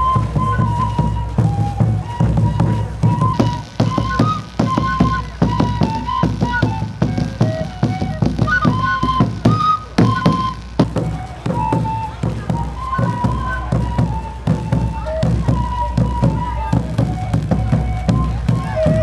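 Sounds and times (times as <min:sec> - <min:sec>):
cane flutes playing melody: 0:00.0 - 0:19.0
large drum beaten: 0:00.0 - 0:19.0.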